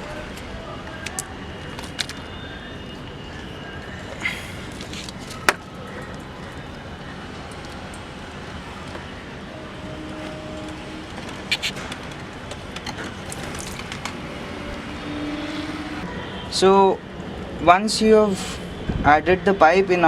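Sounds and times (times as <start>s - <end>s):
outdoor traffic hum: 0.0s - 20.0s.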